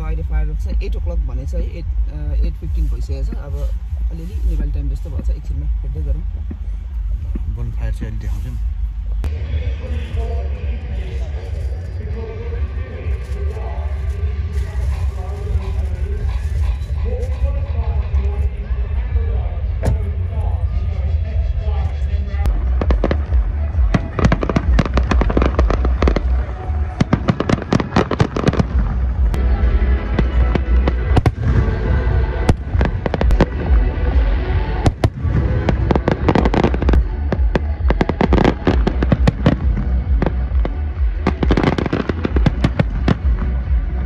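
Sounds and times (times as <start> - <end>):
fireworks bangs and crackles: 0.0 - 21.8, 22.4 - 44.0
music playing: 0.0 - 44.0.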